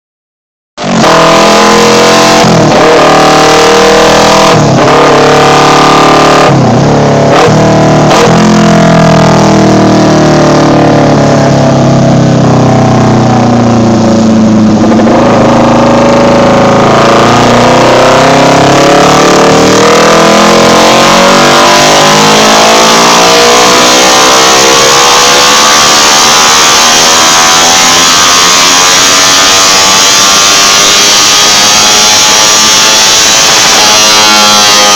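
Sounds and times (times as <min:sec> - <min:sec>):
motorcycle engine revving: 0:00.8 - 0:34.9.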